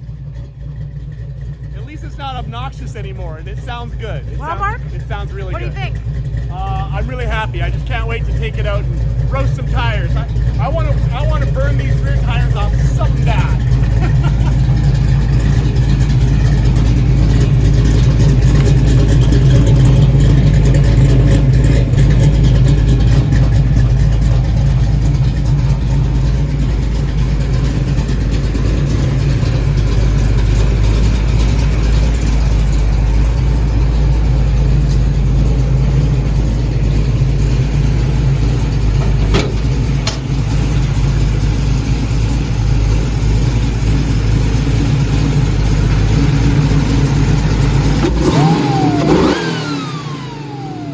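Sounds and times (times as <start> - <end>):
car exhaust idling: 0.0 - 50.9.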